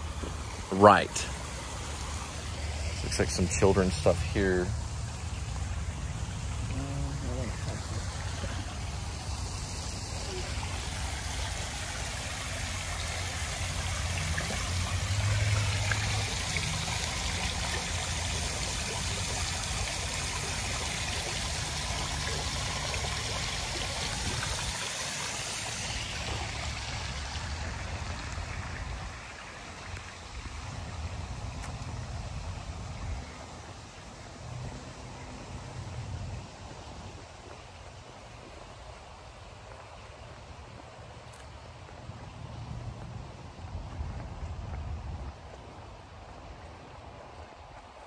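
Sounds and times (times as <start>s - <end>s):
water splashing into pool: 0.0s - 42.0s.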